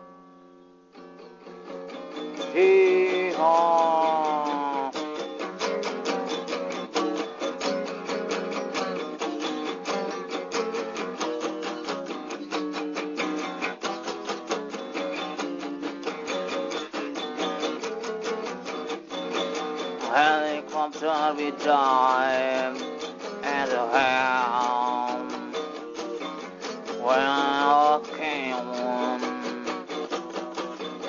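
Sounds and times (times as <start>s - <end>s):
guitar music: 0.0s - 31.0s.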